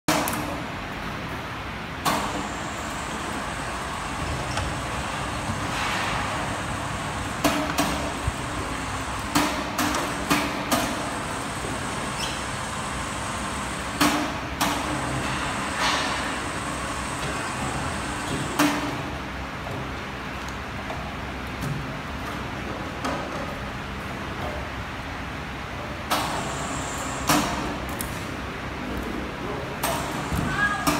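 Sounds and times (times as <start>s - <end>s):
steady background hum: 0.1s - 30.9s.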